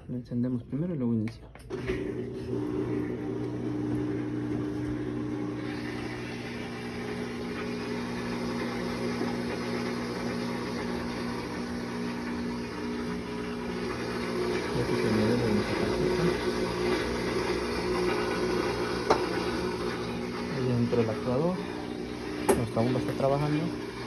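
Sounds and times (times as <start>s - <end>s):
washer drain pump humming: 1.6s - 24.0s.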